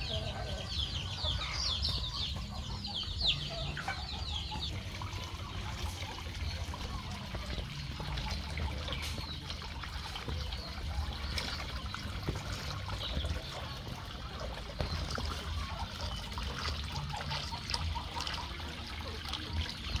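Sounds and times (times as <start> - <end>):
water trickling from pipe: 0.0 - 20.0.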